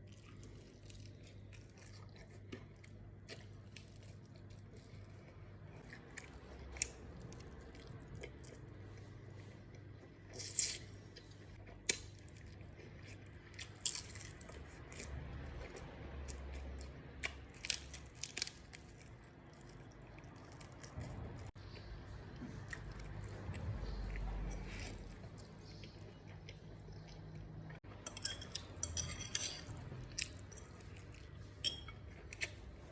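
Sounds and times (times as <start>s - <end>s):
chewing food: 0.0s - 10.4s, 11.1s - 32.9s.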